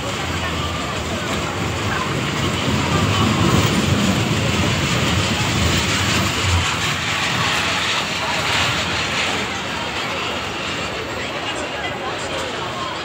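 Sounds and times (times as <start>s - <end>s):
train ride running on rails: 0.0s - 13.0s.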